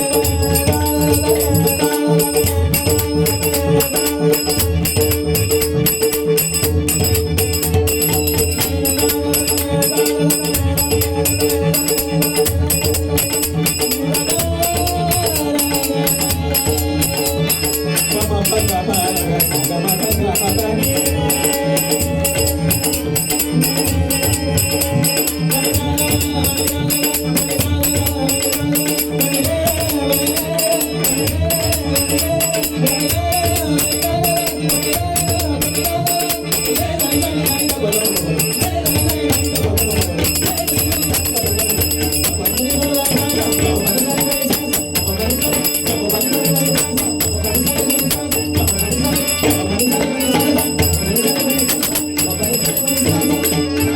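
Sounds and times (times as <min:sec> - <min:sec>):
jingling hand percussion: 0:00.0 - 0:53.9
person singing devotional song: 0:00.0 - 0:53.9.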